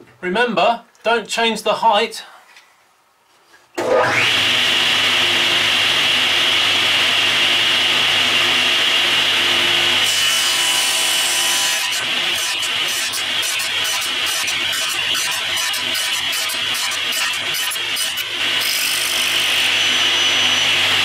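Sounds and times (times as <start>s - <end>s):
table saw blade whine: 3.8s - 21.0s
table saw cutting wood: 3.8s - 21.0s.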